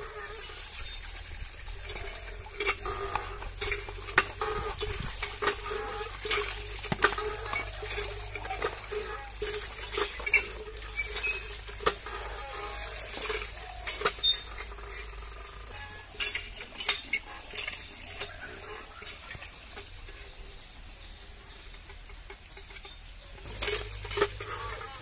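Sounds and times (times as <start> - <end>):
pump handle clinking: 0.0 - 25.0.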